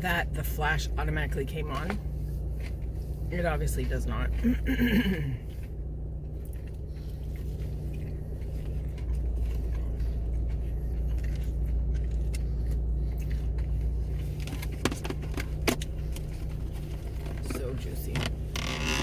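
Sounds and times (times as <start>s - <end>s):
car idling hum: 0.0s - 19.0s.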